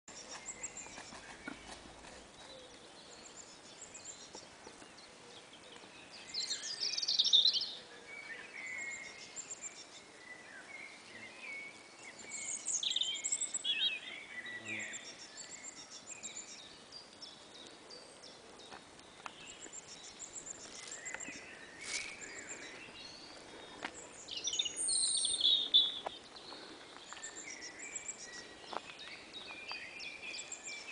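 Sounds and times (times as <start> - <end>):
birdsong: 0.1 - 30.9.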